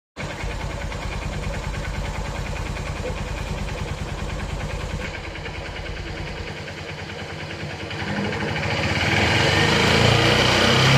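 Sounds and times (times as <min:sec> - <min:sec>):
small motorcycle engine idling: 0:00.2 - 0:10.9.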